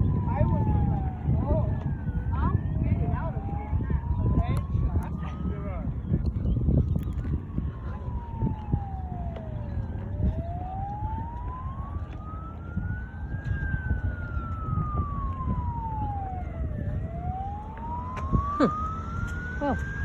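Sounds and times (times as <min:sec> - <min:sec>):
police-style siren wailing: 0:00.0 - 0:20.0
steady low rumble: 0:00.0 - 0:20.0.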